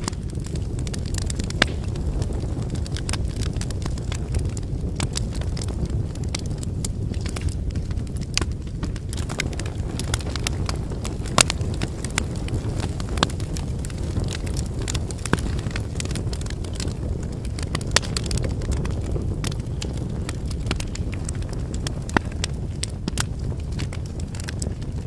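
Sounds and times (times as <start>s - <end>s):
campfire low rush: 0.0s - 25.0s
firewood crackling and popping: 0.0s - 25.0s.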